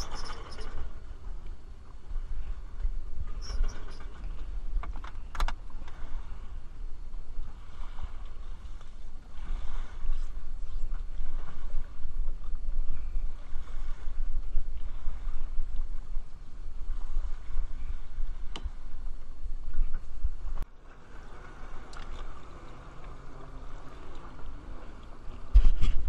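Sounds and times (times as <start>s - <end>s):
low rumble: 0.0s - 26.0s
water lapping: 0.0s - 26.0s.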